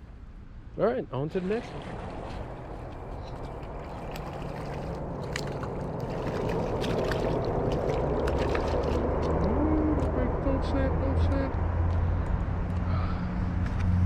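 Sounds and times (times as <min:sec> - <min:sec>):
outdoor background noise: 0:00.0 - 0:14.0
low motor hum: 0:01.4 - 0:14.0.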